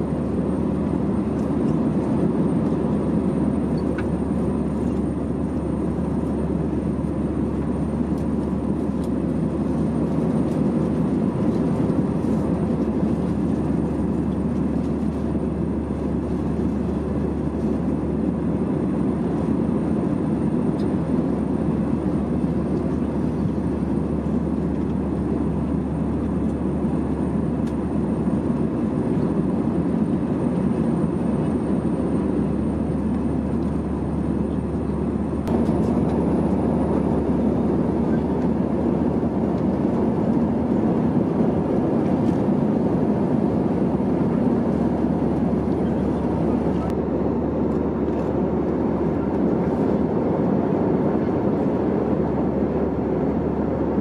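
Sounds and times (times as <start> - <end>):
airplane cabin airflow and engine drone: 0.0 - 54.0
faint steady hums: 0.0 - 54.0.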